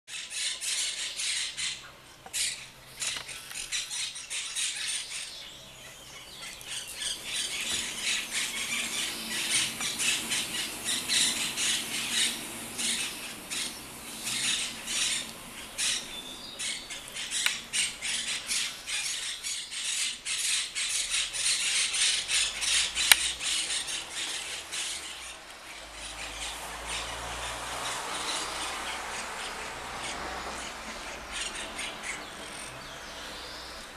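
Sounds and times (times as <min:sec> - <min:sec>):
parakeets squawking: 0:00.1 - 0:33.9.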